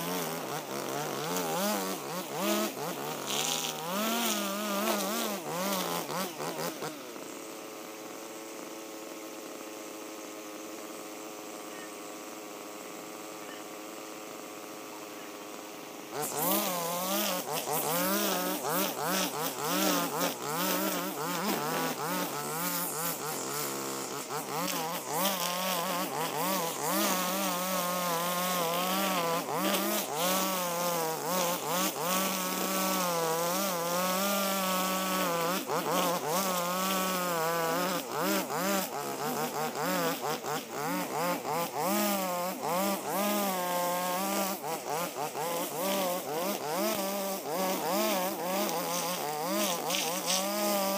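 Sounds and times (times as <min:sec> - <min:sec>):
brush cutter engine running: 0:00.0 - 0:50.9.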